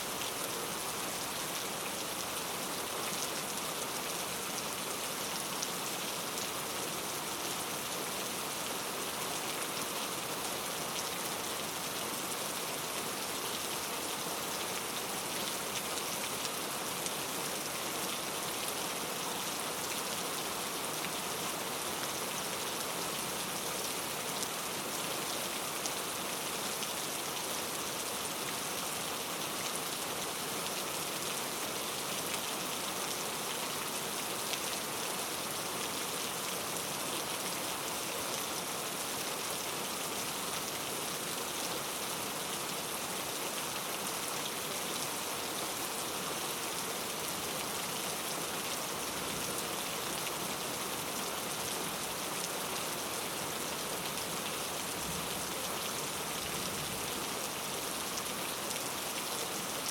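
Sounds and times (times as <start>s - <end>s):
rain falling on foliage: 0.0s - 59.9s.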